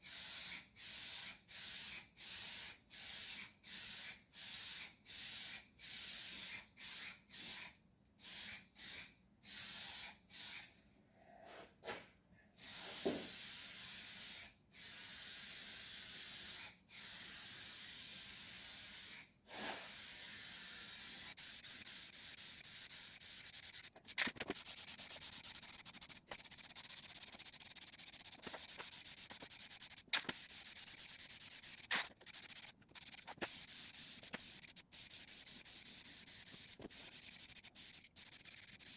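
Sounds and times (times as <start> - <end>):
paint spraying hiss: 0.1 - 10.7, 12.6 - 38.9.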